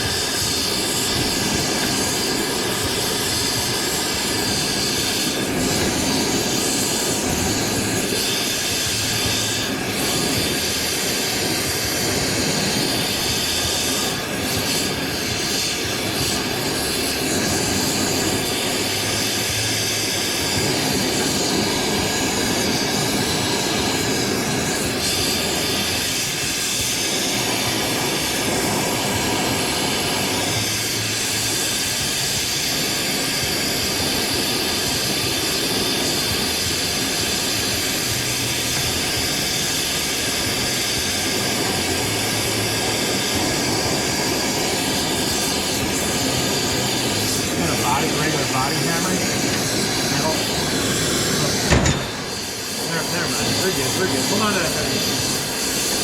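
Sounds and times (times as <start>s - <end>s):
steady rushing roar: 0.0s - 56.0s.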